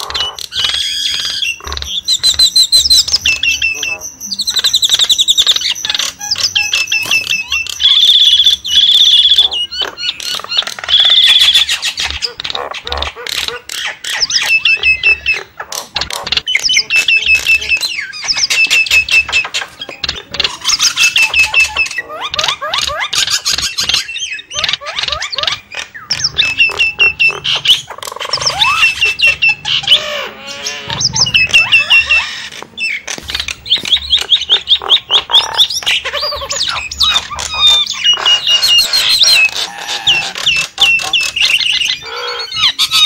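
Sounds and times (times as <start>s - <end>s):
mynas calling in chorus: 5.7s - 43.0s.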